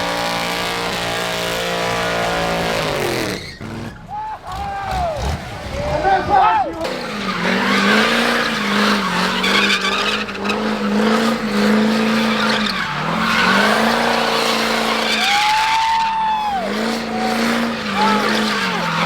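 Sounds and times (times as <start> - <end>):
truck engine at high revs: 0.0 - 19.0
tyres spinning and squealing: 0.0 - 19.0.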